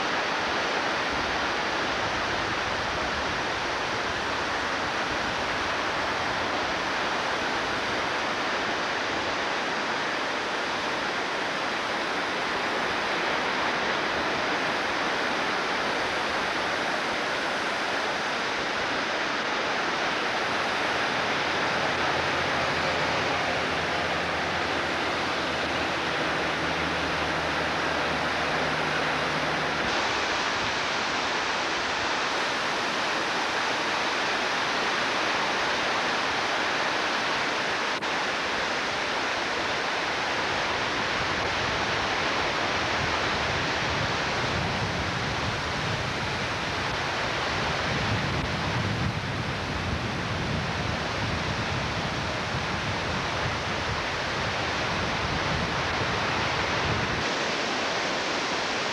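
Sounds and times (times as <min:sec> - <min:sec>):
creek water rushing: 0:00.0 - 0:58.9.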